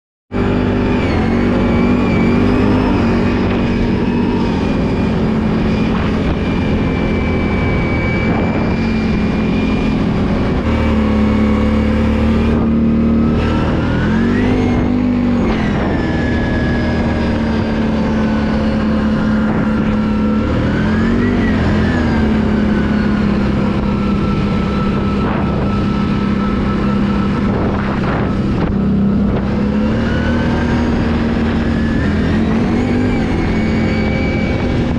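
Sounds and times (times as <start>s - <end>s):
atv engine running: 0.3s - 34.9s.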